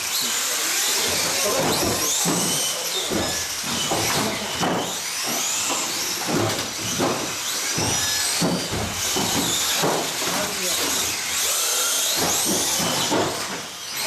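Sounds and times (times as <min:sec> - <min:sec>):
rc car electric motors whining: 0:00.0 - 0:14.0.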